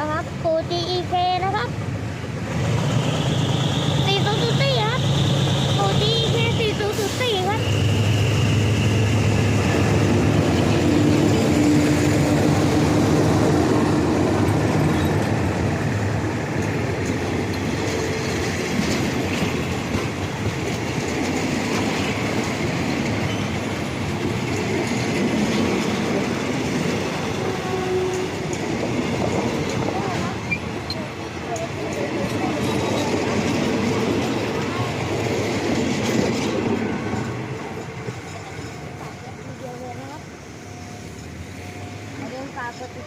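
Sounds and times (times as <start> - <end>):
locomotive engine humming: 0.0 - 43.0
train wheels clattering on rails: 2.4 - 43.0.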